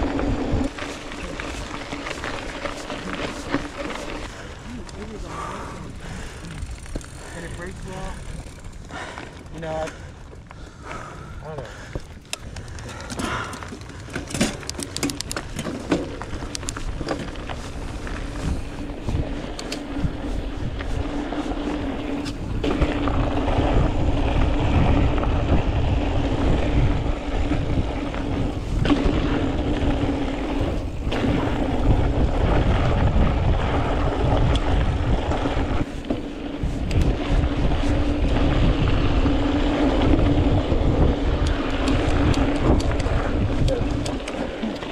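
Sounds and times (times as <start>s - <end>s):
bike rattling over rough ground: 0.0s - 44.9s
constant hum: 0.0s - 44.9s
tyres rushing on dirt: 0.0s - 44.9s
wind on the microphone: 0.0s - 44.9s.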